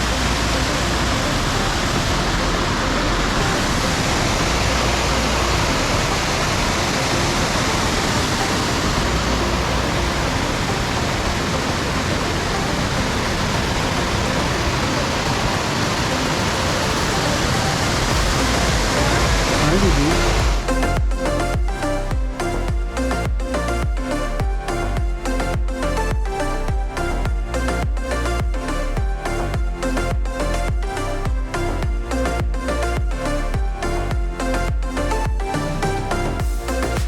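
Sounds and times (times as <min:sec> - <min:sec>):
rushing waterfall: 0:00.0 - 0:37.0.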